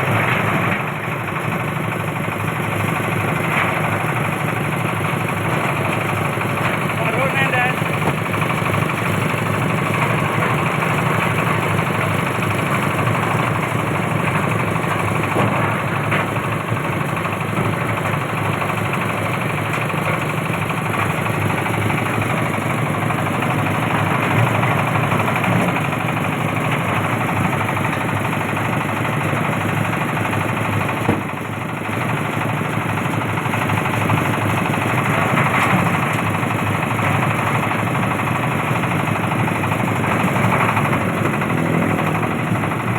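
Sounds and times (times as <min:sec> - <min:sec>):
threshing machine running: 0:00.0 - 0:42.9.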